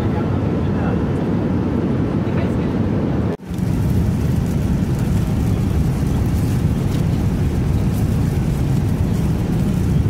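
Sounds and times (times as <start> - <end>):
airliner cabin noise in flight: 0.0 - 10.0.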